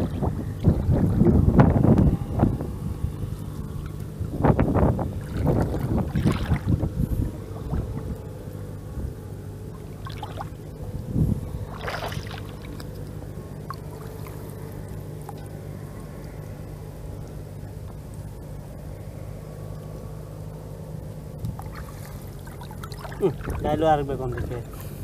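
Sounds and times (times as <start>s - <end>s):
steady low hum: 0.0s - 25.0s
water splashing and sloshing: 0.0s - 25.0s.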